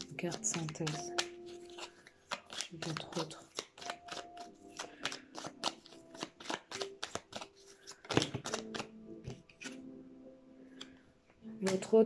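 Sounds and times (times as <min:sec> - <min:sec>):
cards being shuffled: 0:00.0 - 0:09.9, 0:11.6 - 0:11.9.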